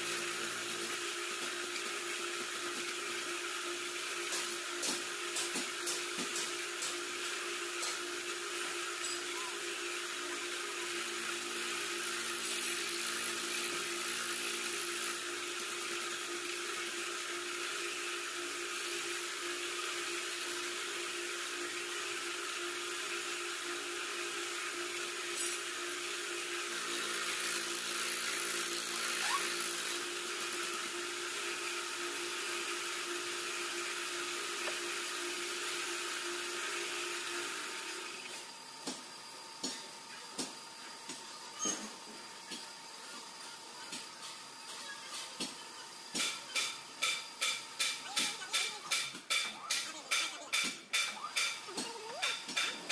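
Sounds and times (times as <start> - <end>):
boring machine humming and hissing: 0.0 - 52.9.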